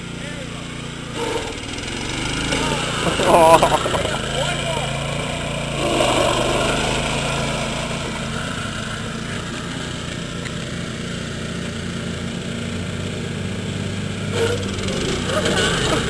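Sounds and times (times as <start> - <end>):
garden tractor engine running: 0.0 - 16.0.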